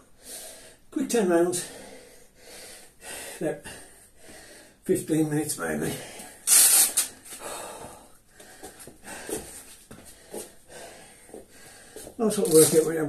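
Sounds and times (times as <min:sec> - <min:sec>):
man breathing heavily: 0:00.0 - 0:00.9, 0:01.6 - 0:04.8, 0:05.9 - 0:12.2.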